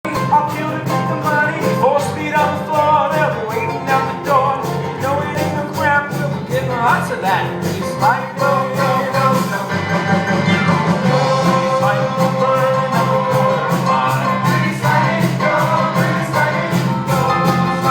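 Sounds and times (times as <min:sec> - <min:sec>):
acoustic bluegrass string music: 0:00.0 - 0:17.9.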